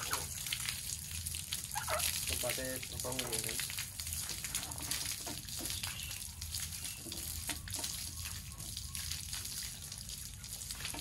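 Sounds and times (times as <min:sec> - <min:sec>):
running water splashing: 0:00.0 - 0:11.0.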